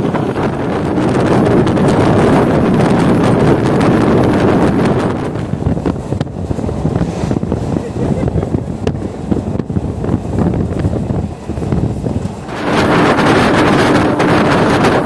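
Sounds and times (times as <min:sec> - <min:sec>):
train wheel and rail noise: 0:00.0 - 0:15.0
wind buffeting microphone: 0:00.0 - 0:15.0.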